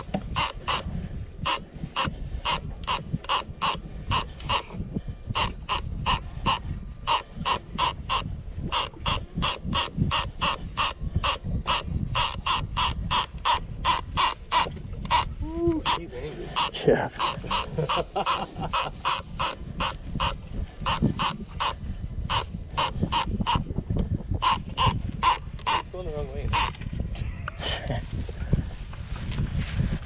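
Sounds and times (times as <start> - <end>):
fishing reel ratchet clicking: 0.0 - 4.7, 5.4 - 16.0, 16.6 - 23.6, 24.4 - 25.9, 26.5 - 26.8.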